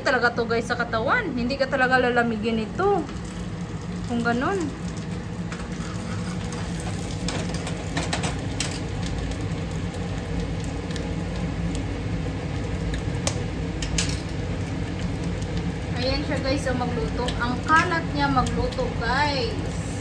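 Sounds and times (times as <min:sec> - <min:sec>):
food sizzling in oil: 0:01.7 - 0:20.0.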